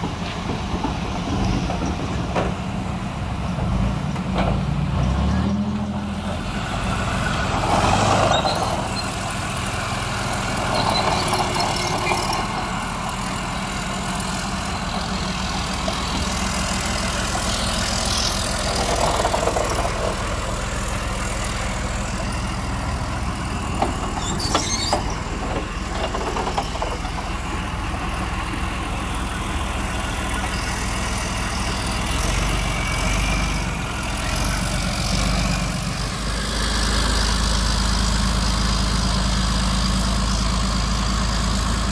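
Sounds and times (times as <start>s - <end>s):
tank diesel engine running: 0.0s - 41.9s.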